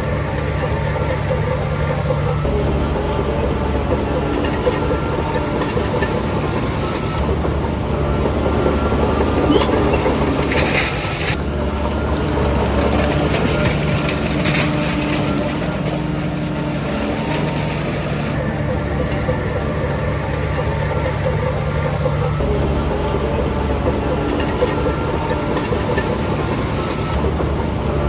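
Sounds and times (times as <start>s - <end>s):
heavy diesel machinery running: 0.0s - 28.0s
metallic clatter: 0.0s - 28.0s.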